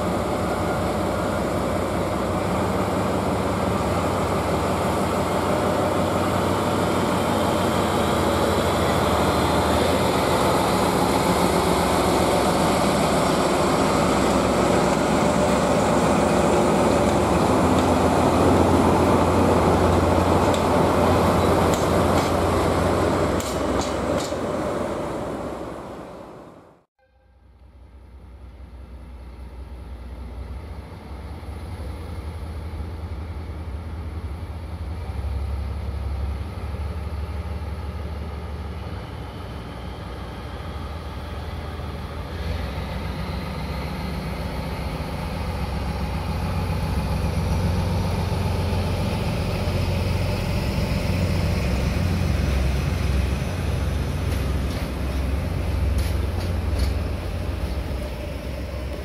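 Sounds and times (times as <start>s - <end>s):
diesel locomotive engine drone: 0.0s - 59.0s
loud train: 0.0s - 59.0s.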